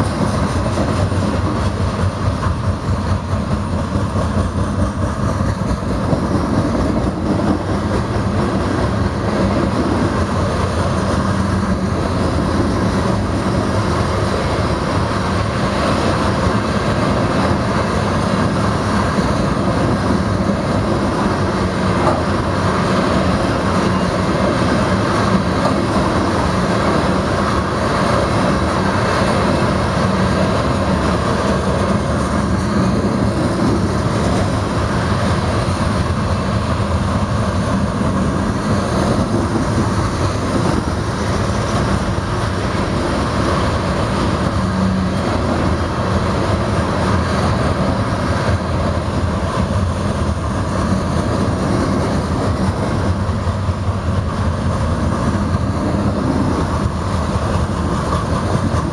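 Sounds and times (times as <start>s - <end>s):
freight car wheels rumbling on rails: 0.0s - 58.9s.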